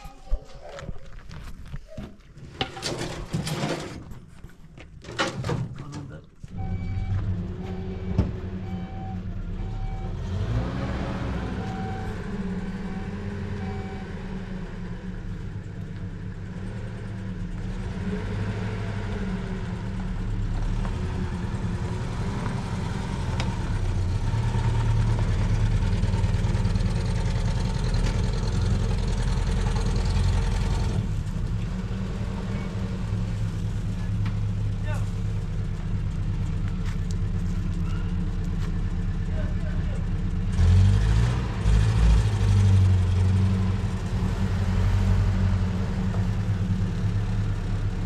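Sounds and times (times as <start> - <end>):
engine humming steadily: 5.9 - 48.0.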